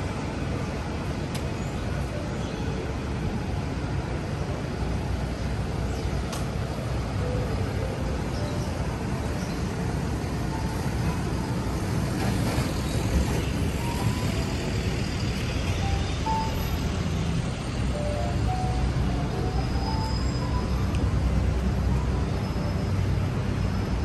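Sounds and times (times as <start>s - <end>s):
traffic engines rumbling: 0.0s - 24.0s.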